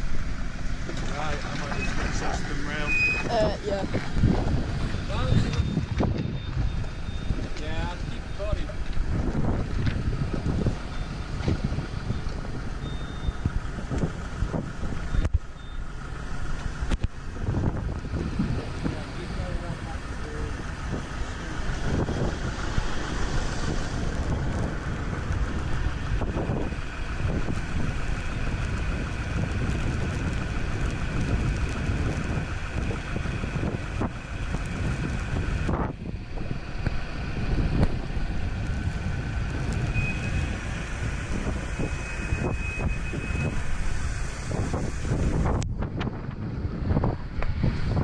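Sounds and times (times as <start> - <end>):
car engines running: 0.0 - 48.0
wind buffeting microphone: 0.0 - 48.0.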